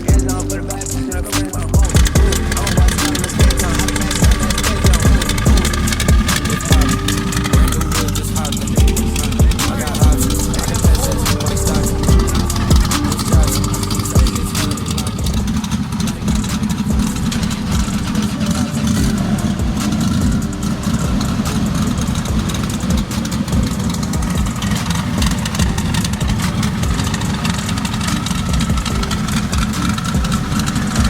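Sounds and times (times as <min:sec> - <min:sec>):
race car engine idling: 0:00.0 - 0:31.0.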